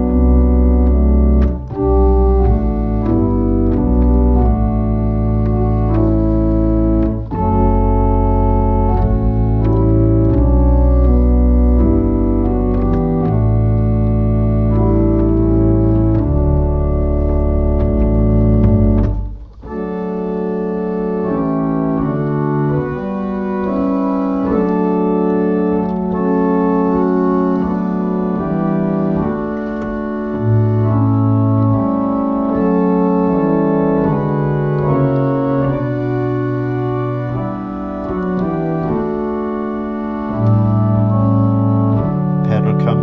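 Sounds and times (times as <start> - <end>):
pipe organ playing chords: 0.0 - 43.0.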